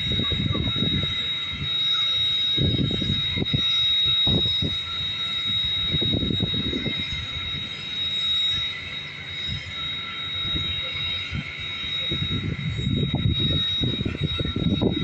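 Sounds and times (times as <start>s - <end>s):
train high whine: 0.0s - 15.0s.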